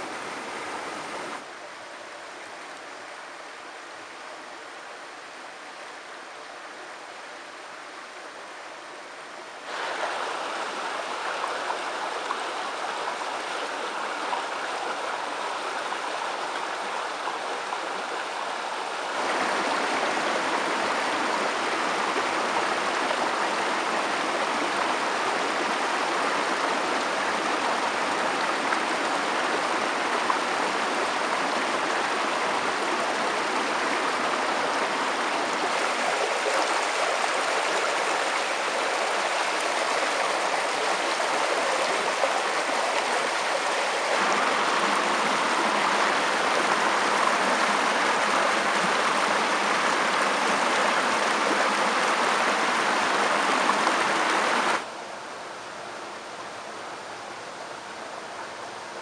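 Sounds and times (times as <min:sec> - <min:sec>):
stream rushing over stones: 0:00.0 - 0:04.1, 0:08.9 - 0:59.0.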